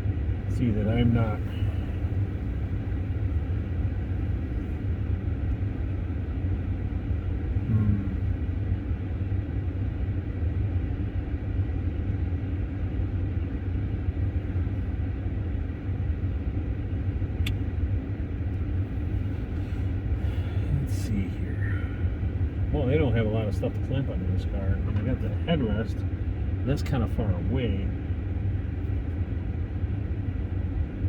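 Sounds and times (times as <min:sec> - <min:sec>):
car heater rumble: 0:00.0 - 0:31.0.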